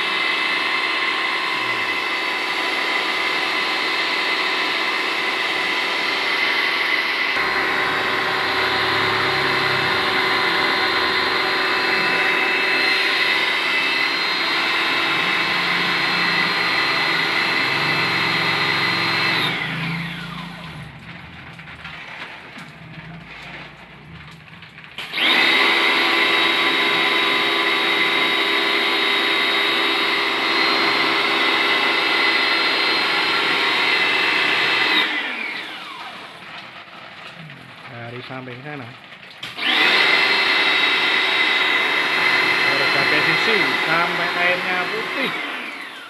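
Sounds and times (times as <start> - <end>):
pressure washer whine: 0.0 - 37.6, 39.4 - 46.0.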